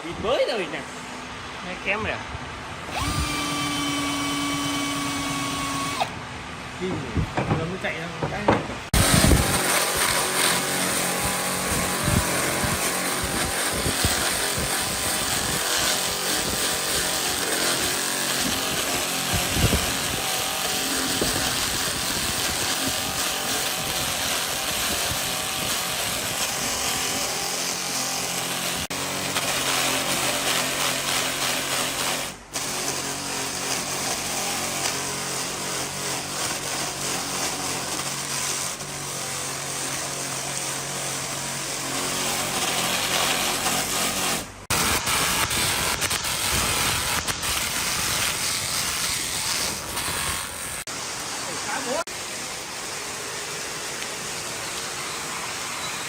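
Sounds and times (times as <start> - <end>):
power tool running: 0.0 - 56.0.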